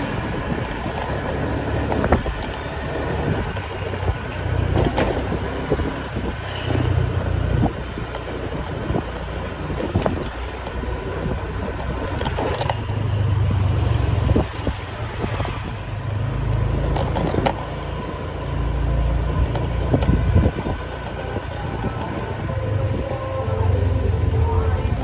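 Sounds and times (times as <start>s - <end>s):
wind buffeting microphone: 0.0s - 18.4s, 19.3s - 23.7s
vehicle engines rumbling: 0.0s - 25.0s.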